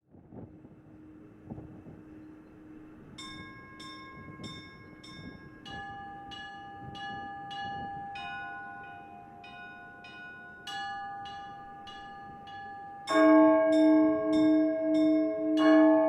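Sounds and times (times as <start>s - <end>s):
lower-pitched bell: 0.6s - 16.0s
small bells striking: 2.1s - 16.0s.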